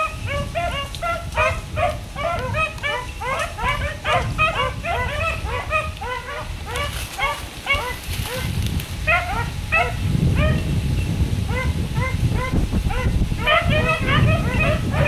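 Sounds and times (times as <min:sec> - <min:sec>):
hounds barking in chorus: 0:00.0 - 0:10.7, 0:11.4 - 0:15.0.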